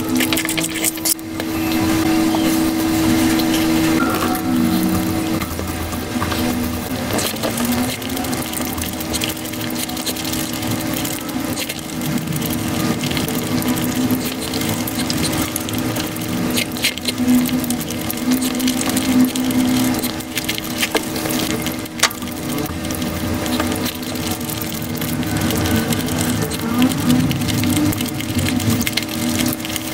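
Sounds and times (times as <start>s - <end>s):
sped-up eating sounds: 0.0s - 29.9s
steady low hum: 0.0s - 29.9s.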